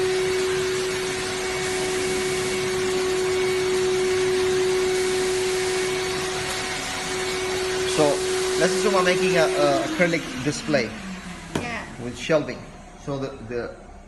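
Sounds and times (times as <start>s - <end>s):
flatbed cutter whining: 0.0s - 13.7s.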